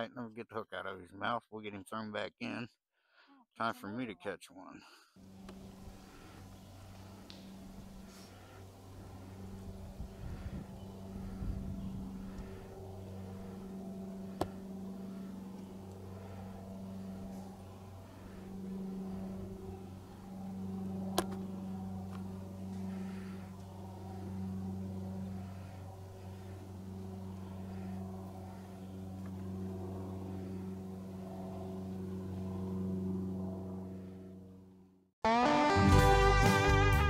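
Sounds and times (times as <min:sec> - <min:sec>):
motor humming: 0:05.2 - 0:35.0.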